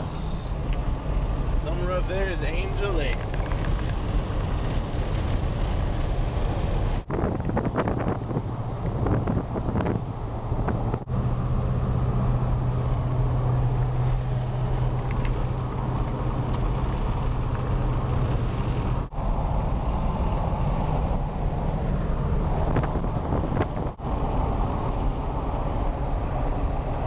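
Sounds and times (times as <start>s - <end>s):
car engine drone: 0.0s - 27.0s
road and wind noise: 0.0s - 27.0s.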